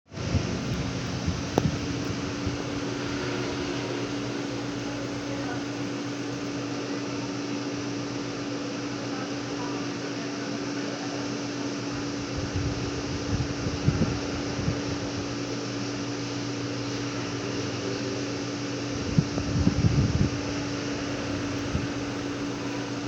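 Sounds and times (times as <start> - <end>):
mechanical motor hum: 0.1 - 23.0.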